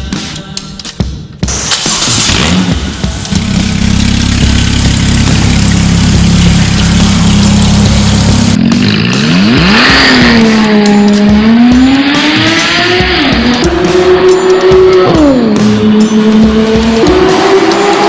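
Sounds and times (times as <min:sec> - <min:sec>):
car engine revving: 0:01.6 - 0:18.0.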